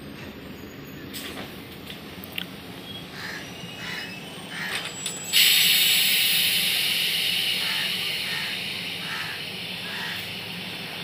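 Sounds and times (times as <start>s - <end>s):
train coaches rumbling: 0.0s - 11.0s
air brakes hissing: 0.4s - 1.6s, 2.7s - 11.0s.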